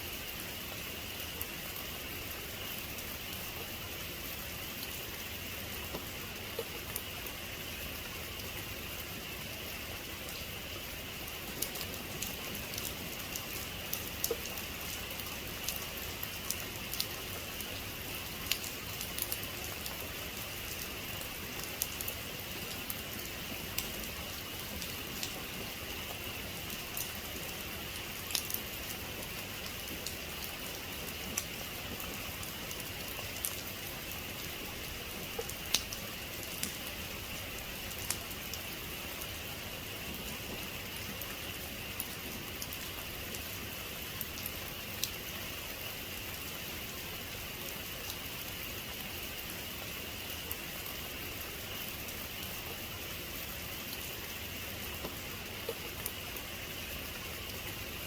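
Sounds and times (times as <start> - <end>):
raindrops ticking on a surface: 0.1 - 58.0.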